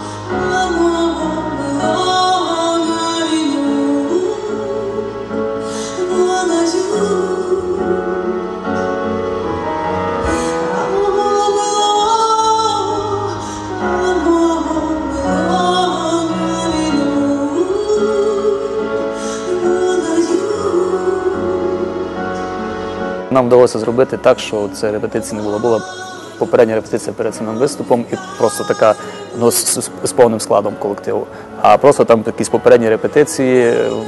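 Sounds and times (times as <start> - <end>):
woman singing into a microphone: 0.0 - 23.3, 24.1 - 30.2, 33.6 - 34.0
electric keyboard chords: 0.0 - 34.0.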